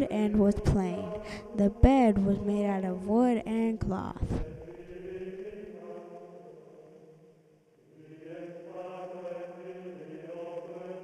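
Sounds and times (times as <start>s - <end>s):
chanted vocal music: 0.0s - 11.0s.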